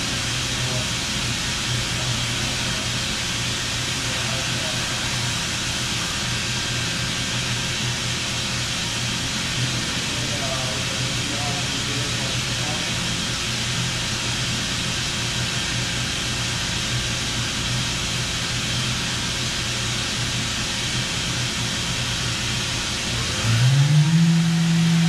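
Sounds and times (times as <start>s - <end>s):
spindle whine rising: 0.0s - 16.9s, 17.9s - 25.0s
machine humming and hissing: 0.0s - 25.0s.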